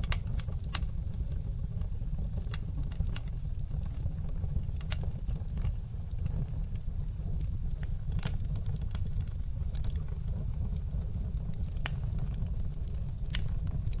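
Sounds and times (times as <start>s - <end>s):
fire popping and snapping: 0.0s - 14.0s
flames rumbling: 0.0s - 14.0s.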